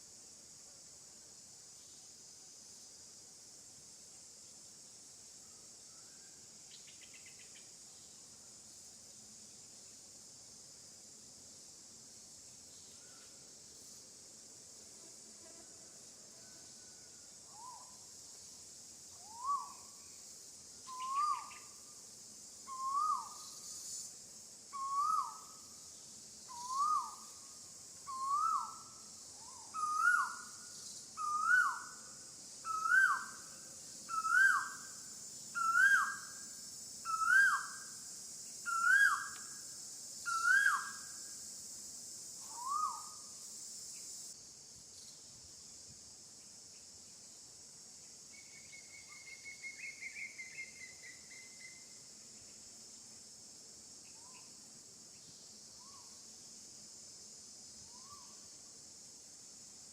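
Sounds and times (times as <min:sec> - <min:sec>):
insect buzzing: 0:00.0 - 0:59.9.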